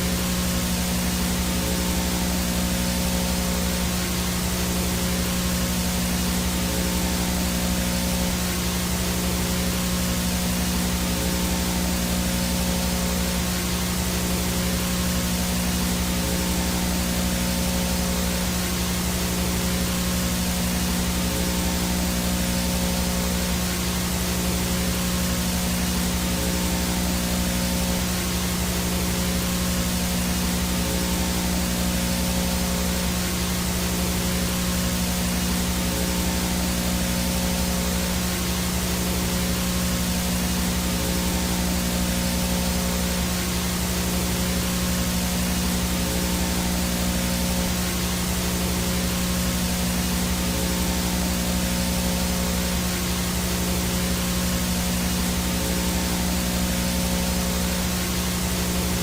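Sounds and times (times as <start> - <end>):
low electrical hum: 0.0 - 59.0
static hiss: 0.0 - 59.0.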